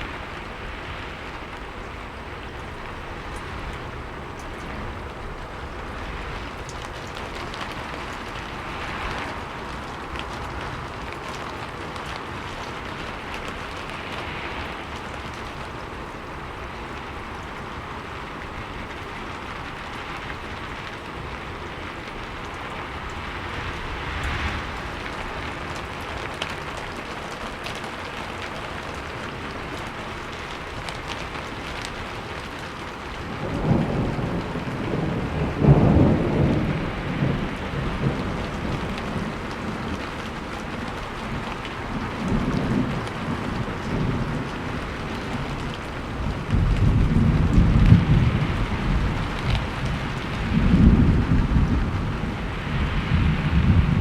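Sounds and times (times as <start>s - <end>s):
heavy rain falling: 0.0s - 54.0s
rolling thunder rumble: 0.0s - 54.0s.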